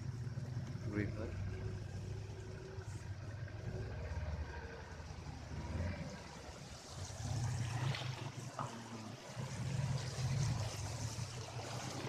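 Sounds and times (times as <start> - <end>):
boat motor rumbling: 0.0 - 12.0
water rushing and splashing: 0.0 - 12.0.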